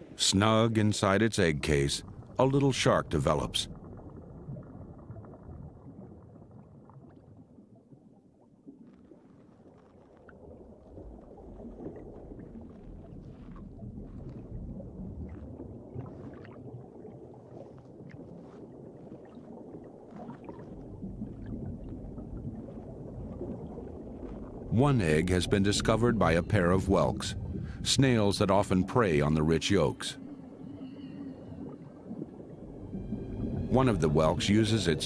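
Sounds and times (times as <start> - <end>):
underwater surging water rumble: 0.8 - 35.0.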